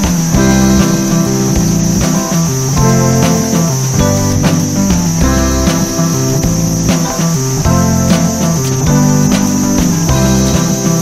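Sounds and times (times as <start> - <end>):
guitar music over a beat: 0.0 - 11.0
high-pitched buzz: 0.0 - 11.0.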